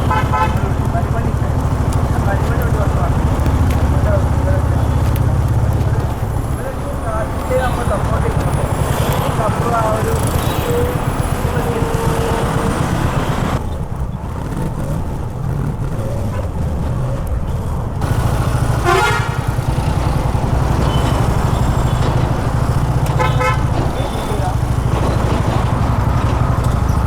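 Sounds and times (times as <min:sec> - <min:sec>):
vehicle horns: 0:00.0 - 0:13.6, 0:18.0 - 0:27.0
motorcycle engine running: 0:00.0 - 0:27.0.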